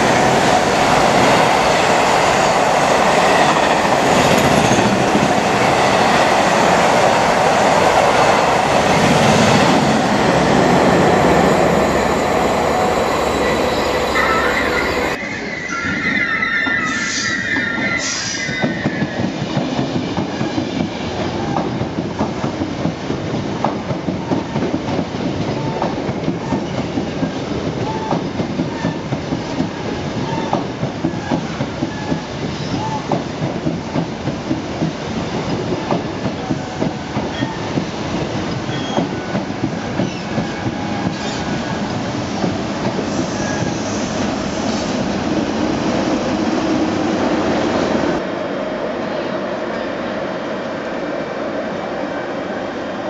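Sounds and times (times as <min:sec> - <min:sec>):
train wheels clattering over rails: 0:00.0 - 0:15.2, 0:17.6 - 0:47.6.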